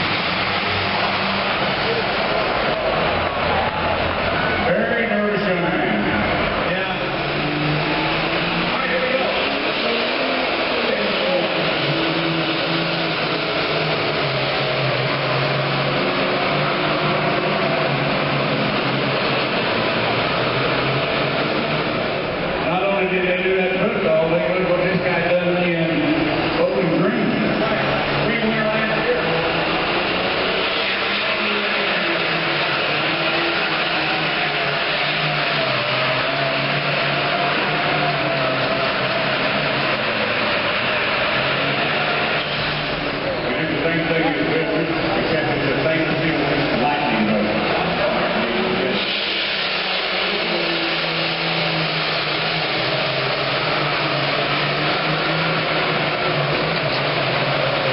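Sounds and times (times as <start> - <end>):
diesel engine running under load: 0.0 - 57.9.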